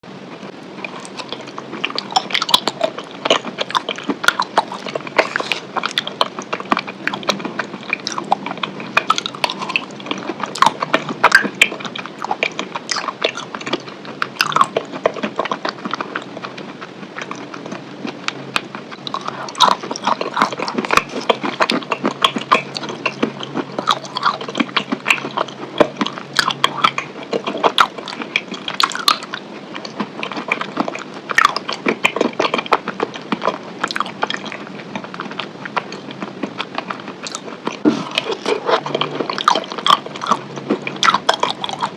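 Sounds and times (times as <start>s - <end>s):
chewing and biting: 0.2s - 41.9s.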